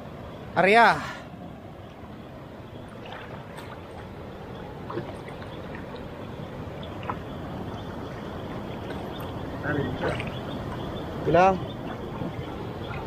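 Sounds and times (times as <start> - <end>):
water sloshing and trickling: 1.3 - 13.0
small water splashes: 1.8 - 13.0.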